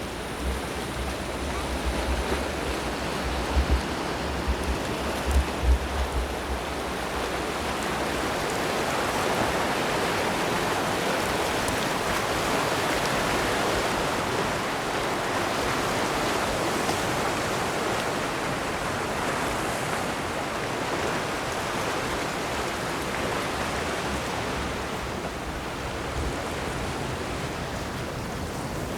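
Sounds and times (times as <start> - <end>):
sea surf on rocky shore: 0.0 - 28.9.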